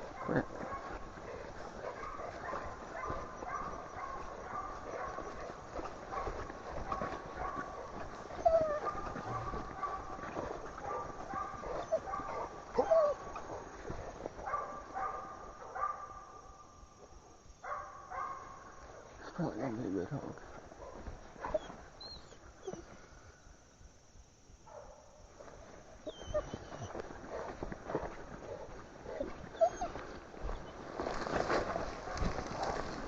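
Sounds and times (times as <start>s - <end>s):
dogs barking: 0.0s - 16.6s, 17.6s - 19.2s, 20.5s - 22.8s, 24.7s - 30.8s.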